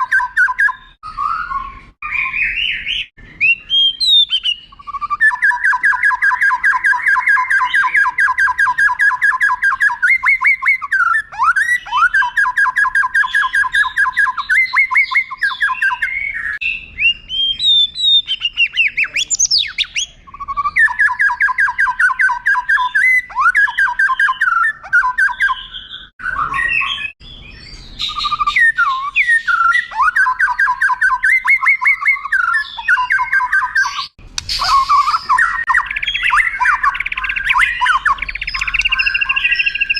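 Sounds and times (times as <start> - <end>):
bird whistles and gliding notes: 0.0 - 39.9
songbird singing rolling phrases: 0.0 - 39.9.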